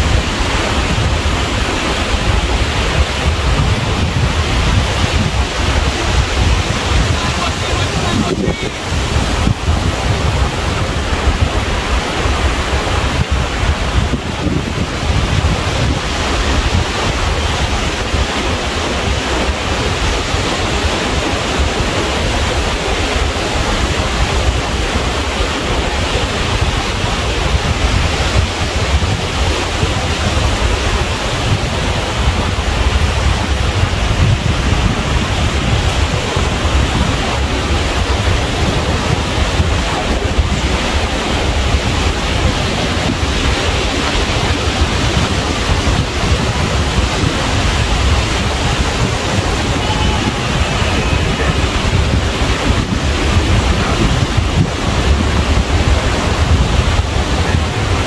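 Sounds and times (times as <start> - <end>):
ocean surf washing ashore: 0.0 - 58.0
wind rumbling on microphone: 0.0 - 58.0.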